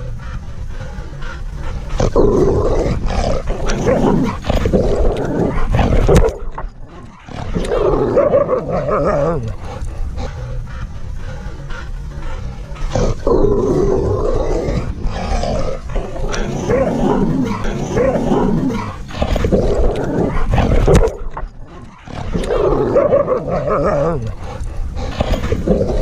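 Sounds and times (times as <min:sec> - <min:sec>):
dogs growling and howling: 0:00.0 - 0:26.0.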